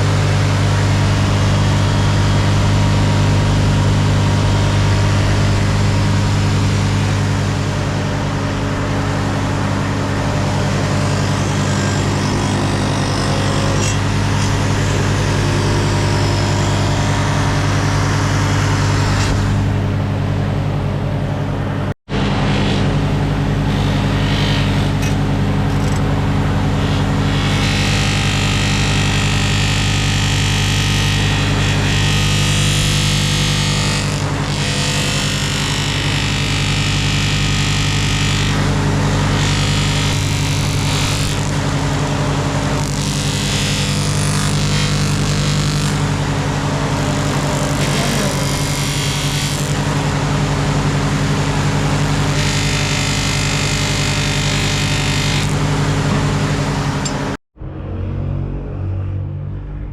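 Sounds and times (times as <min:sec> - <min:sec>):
machine motor running: 0:00.0 - 0:57.4.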